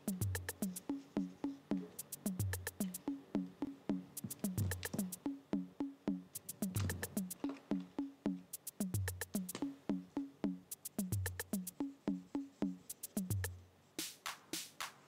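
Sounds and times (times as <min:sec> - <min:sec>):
lo-fi music with drum-machine beat: 0:00.0 - 0:15.0.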